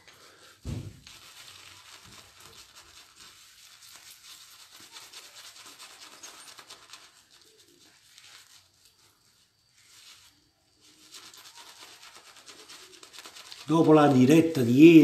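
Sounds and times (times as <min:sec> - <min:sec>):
shaving brush scrubbing lather: 0:00.0 - 0:15.0.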